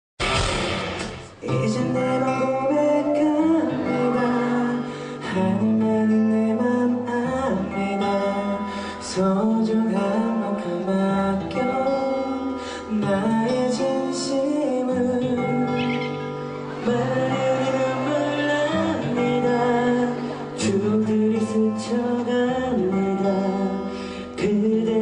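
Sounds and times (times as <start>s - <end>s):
song with singing: 0.4s - 25.0s
held chord-like accompaniment: 1.4s - 25.0s.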